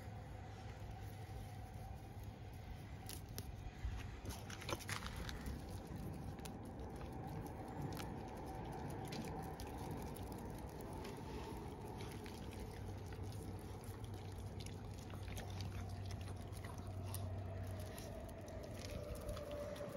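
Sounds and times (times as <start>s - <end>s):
steady low hum: 0.0s - 19.9s
dogs chewing and licking: 0.9s - 19.9s.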